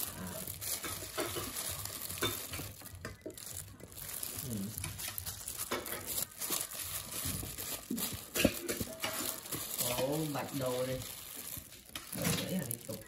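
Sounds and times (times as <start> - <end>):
chives rustling in plastic colander: 0.0 - 13.0.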